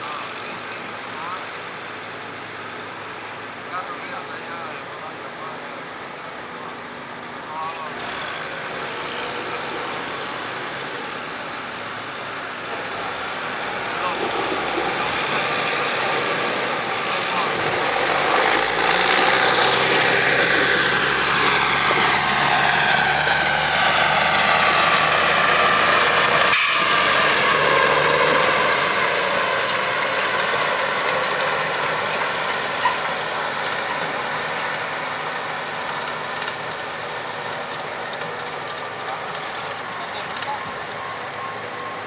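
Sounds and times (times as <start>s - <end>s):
heavy machinery drone: 2.8s - 42.0s.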